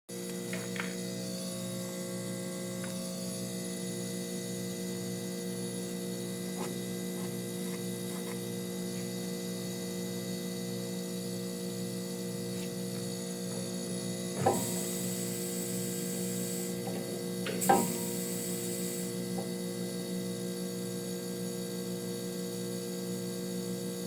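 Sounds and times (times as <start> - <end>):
refrigerator compressor humming: 0.1 - 24.0.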